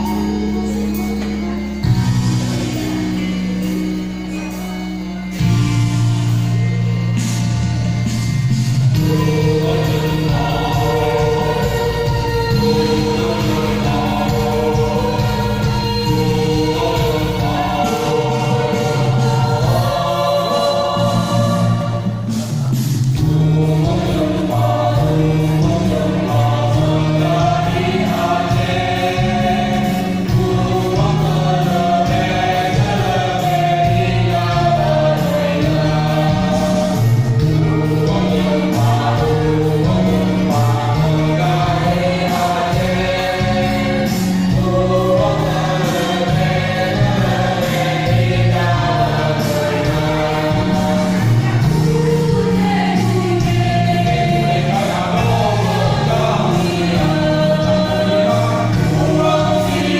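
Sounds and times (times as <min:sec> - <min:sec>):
choir singing sustained chords: 0:00.0 - 0:59.9.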